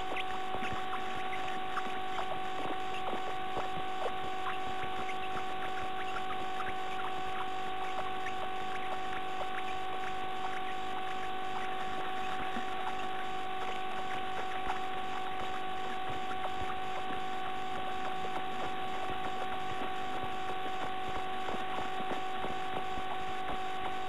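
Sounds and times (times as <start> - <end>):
electrical hum and hiss: 0.0 - 24.0.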